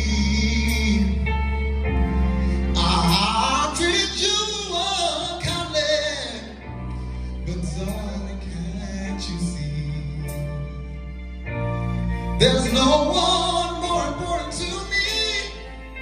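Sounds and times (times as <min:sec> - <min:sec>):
male singer singing soul ballad: 0:00.0 - 0:06.8, 0:07.4 - 0:10.9, 0:12.4 - 0:16.0
instrumental accompaniment: 0:00.0 - 0:16.0.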